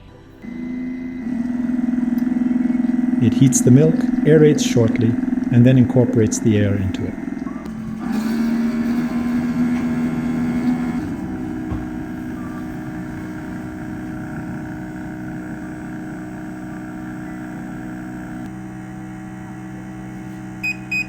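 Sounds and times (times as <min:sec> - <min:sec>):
milk frother motor whirring: 0:00.4 - 0:21.0.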